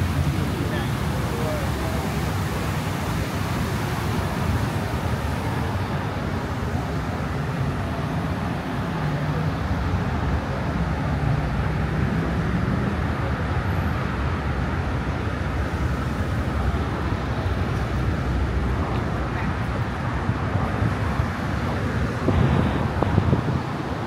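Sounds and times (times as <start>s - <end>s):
street traffic passing: 0.0s - 24.0s.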